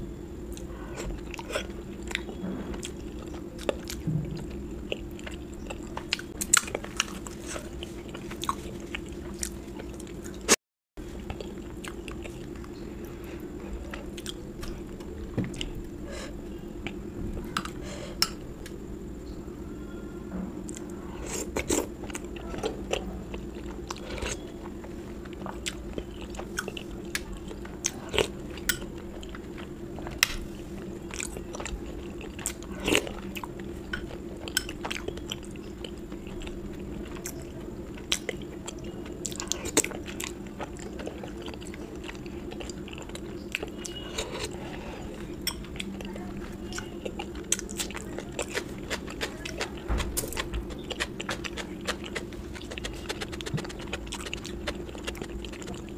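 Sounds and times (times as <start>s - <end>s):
low hum: 0.0s - 55.9s
person chewing crunchy food: 0.5s - 16.0s, 20.6s - 55.9s.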